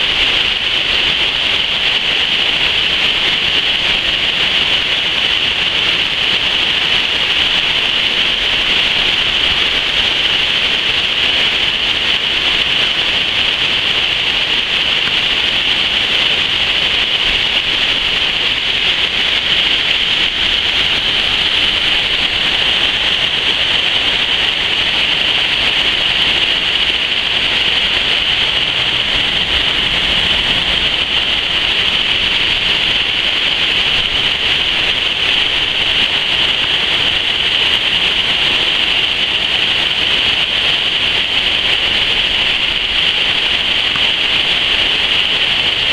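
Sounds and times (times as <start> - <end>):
water rushing through rapids: 0.0 - 45.9.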